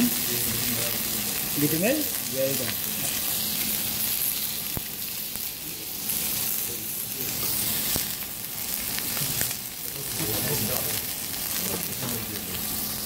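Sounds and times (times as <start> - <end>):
oil crackling and popping: 0.0 - 13.0
steak sizzling in frying pan: 0.0 - 13.0.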